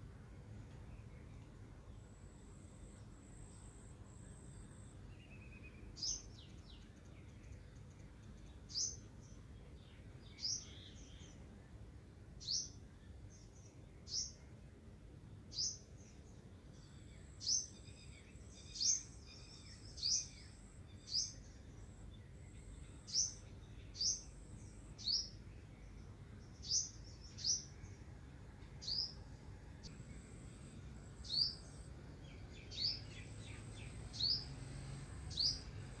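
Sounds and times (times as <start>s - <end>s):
low steady hum: 0.0s - 36.0s
bird chirping: 0.7s - 14.6s, 15.3s - 36.0s.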